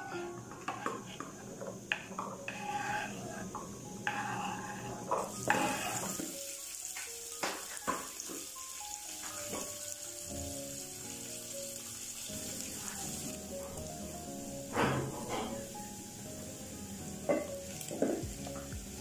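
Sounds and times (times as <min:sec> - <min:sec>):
background music: 0:00.0 - 0:19.0
onions sizzling in oil: 0:00.0 - 0:19.0.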